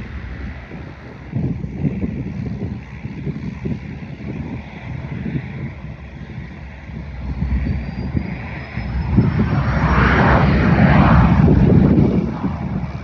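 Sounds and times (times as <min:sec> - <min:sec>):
jet taking off and passing: 0:00.0 - 0:03.7, 0:04.6 - 0:13.0.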